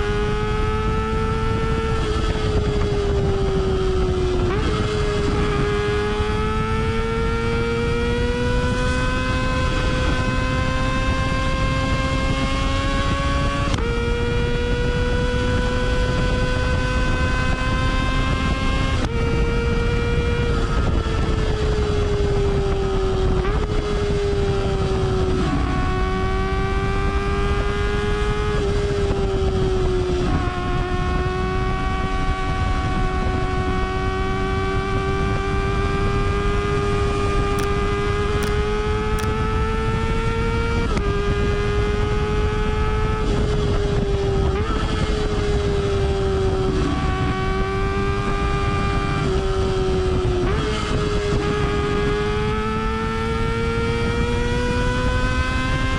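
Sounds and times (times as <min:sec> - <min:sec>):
motorcycle engine revving high: 0:00.0 - 0:55.9.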